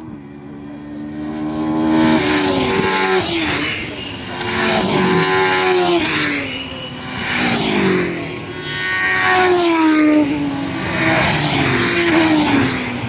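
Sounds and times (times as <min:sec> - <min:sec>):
racing cars passing at speed: 0:00.0 - 0:13.0.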